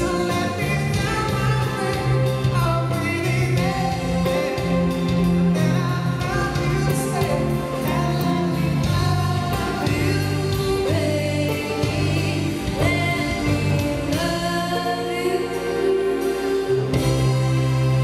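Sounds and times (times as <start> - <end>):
live band with bass line: 0.0 - 18.0
person singing: 0.0 - 18.0.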